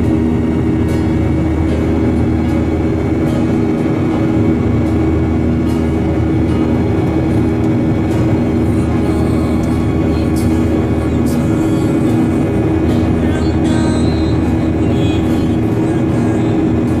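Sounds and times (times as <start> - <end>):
jet airliner cabin drone: 0.0 - 17.0.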